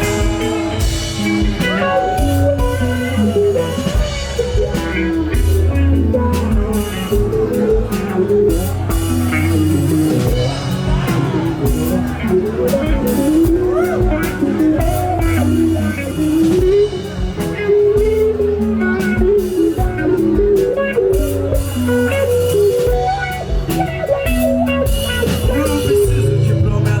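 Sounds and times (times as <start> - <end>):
live band playing: 0.0 - 27.0.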